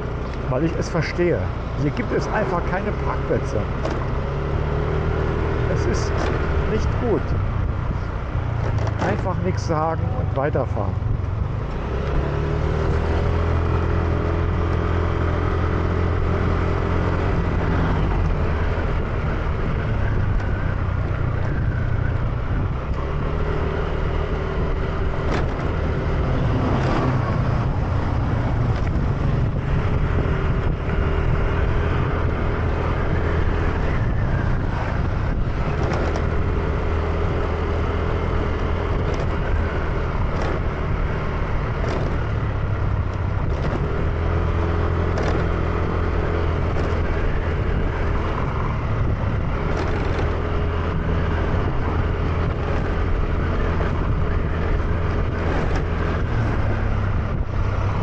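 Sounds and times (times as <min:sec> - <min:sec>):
motor scooter engine humming: 0:00.0 - 0:58.0
wind and road noise: 0:00.0 - 0:58.0.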